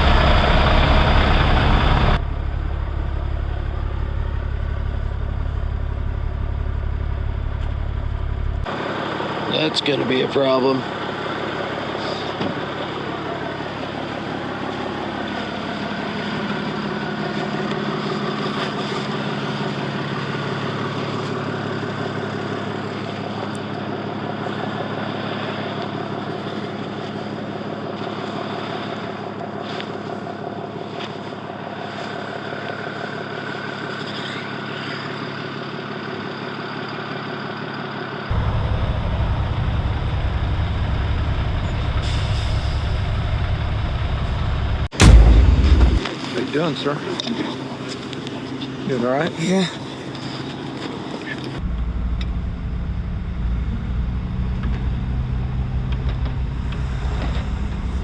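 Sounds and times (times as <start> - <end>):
deep engine rumble: 0.0 - 33.2, 38.3 - 46.1, 51.3 - 58.0
diesel truck engine running: 0.0 - 46.1, 47.6 - 58.0.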